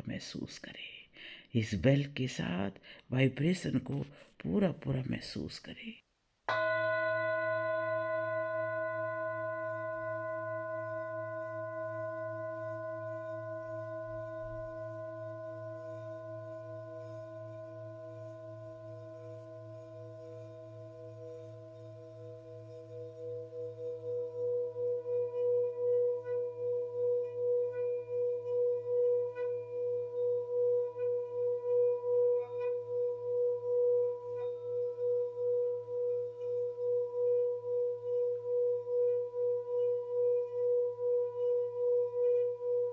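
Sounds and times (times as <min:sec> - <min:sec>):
singing bowl ringing: 0:06.5 - 0:42.9.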